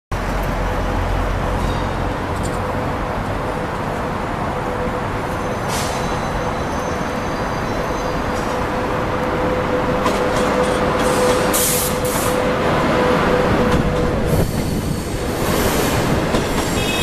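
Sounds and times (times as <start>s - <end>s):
electric locomotive hum and rumble: 0.1s - 17.0s.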